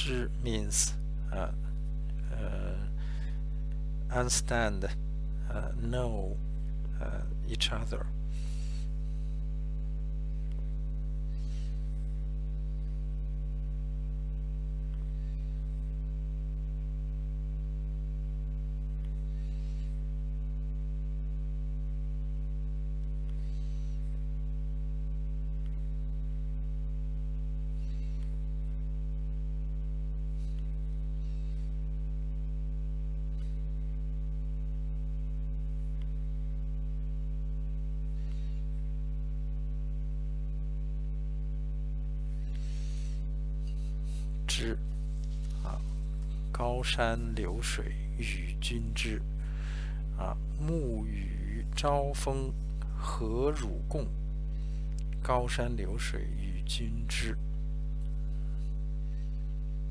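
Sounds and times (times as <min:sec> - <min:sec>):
low mains hum: 0:00.0 - 0:59.9.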